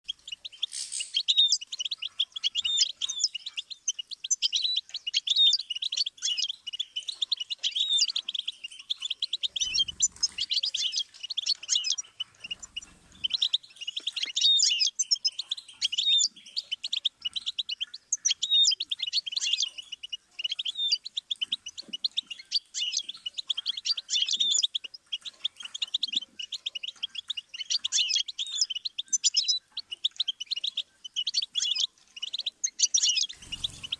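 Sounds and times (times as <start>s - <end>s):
finch singing: 0.0s - 33.9s.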